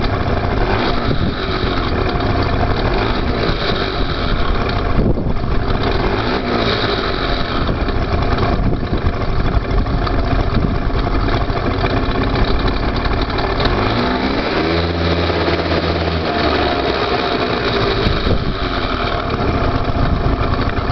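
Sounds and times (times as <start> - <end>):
scooter engine revving: 0.0 - 20.9.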